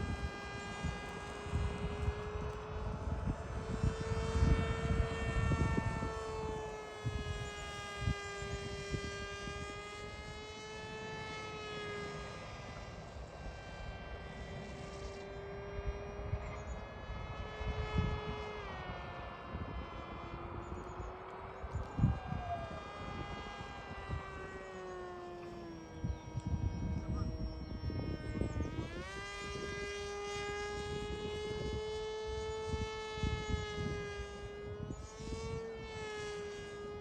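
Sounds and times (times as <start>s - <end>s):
model plane motor whining: 0.0s - 37.0s
wind on microphone: 0.0s - 37.0s.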